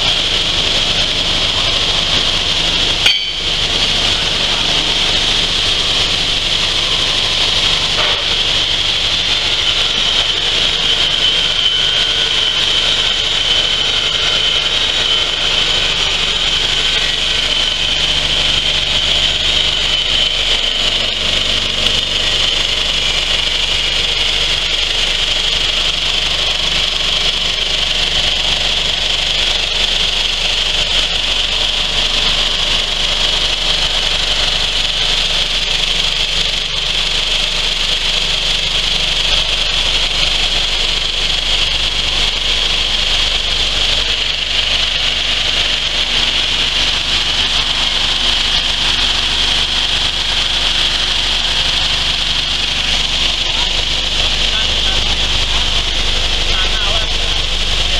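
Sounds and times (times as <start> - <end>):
low motor hum: 0.0 - 57.9.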